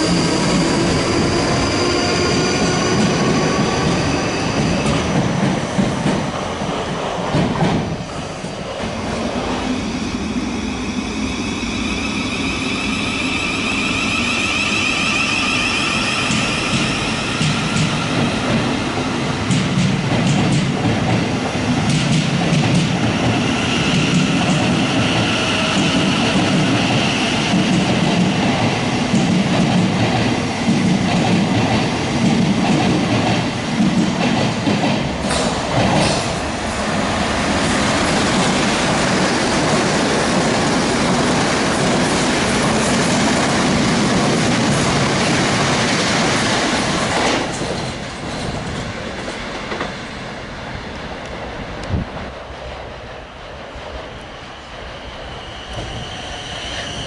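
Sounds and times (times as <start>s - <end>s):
electric train running on rails: 0.0s - 57.0s.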